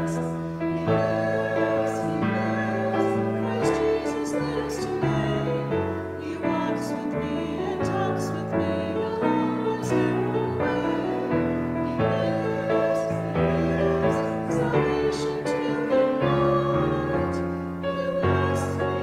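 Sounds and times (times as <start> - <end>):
congregation singing a hymn: 0.0 - 19.0
piano accompaniment: 0.0 - 19.0.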